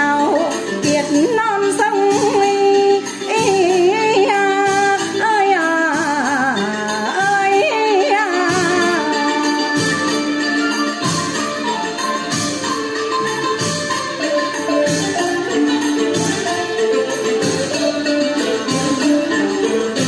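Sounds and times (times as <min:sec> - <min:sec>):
traditional instrumental accompaniment: 0:00.0 - 0:20.0
woman singing with vibrato: 0:00.0 - 0:20.0.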